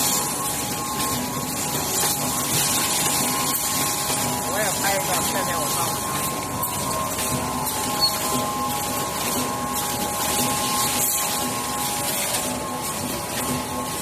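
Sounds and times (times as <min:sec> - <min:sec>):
screen printing machine hum: 0:00.0 - 0:14.0
steady machine tones: 0:00.0 - 0:14.0.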